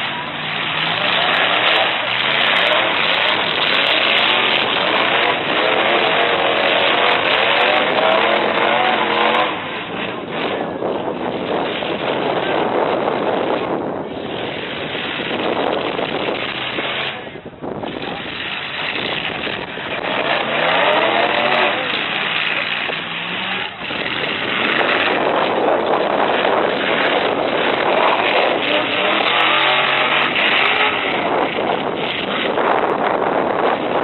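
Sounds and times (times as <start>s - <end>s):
pickup truck engines revving: 0.0s - 34.0s.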